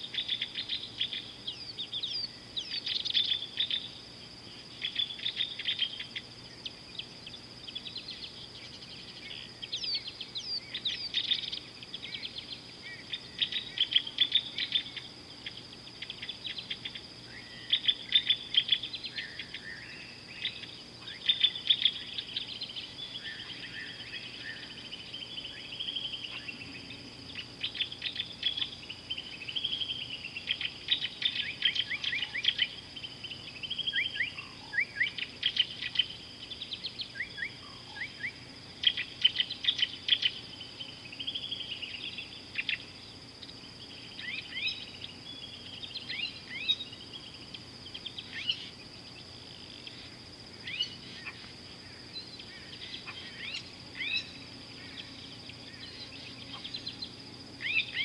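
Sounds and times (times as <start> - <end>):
birds calling and chirping: 0.0 - 58.0
high insect drone: 0.0 - 58.0.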